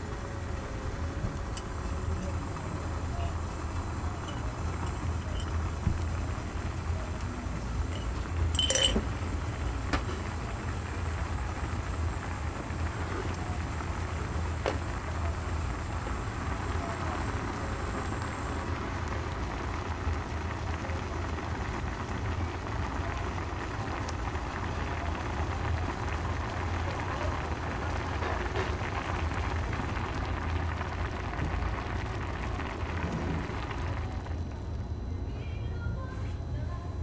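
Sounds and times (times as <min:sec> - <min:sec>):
water boiling and bubbling: 0:00.0 - 0:35.3
gas burner rumble: 0:00.0 - 0:37.0.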